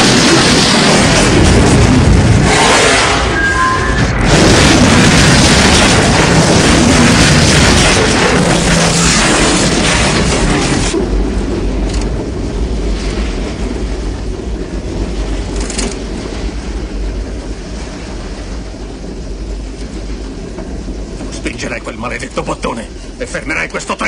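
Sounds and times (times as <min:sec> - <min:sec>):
loud rush of noise: 0:00.0 - 0:24.0
train rumbling on track: 0:00.0 - 0:24.0.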